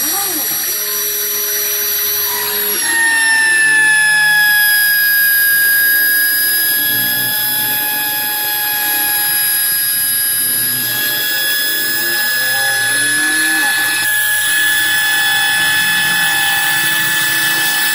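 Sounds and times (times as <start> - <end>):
spindle whining: 0.0 - 17.9.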